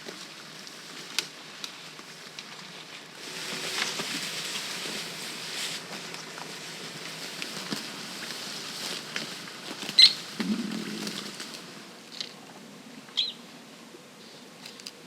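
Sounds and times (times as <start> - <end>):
rustling in dry vegetation: 0.0 - 12.3.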